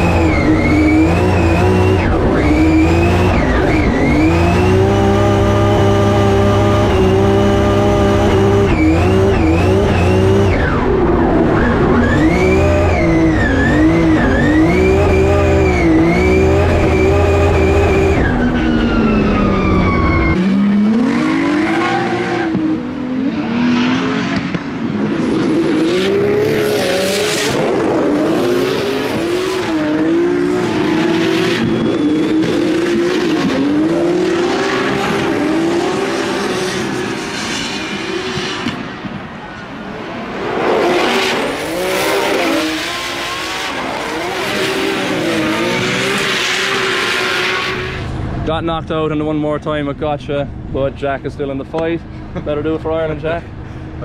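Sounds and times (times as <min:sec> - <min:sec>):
car engine revving hard: 0:00.0 - 0:38.8, 0:40.2 - 0:48.2.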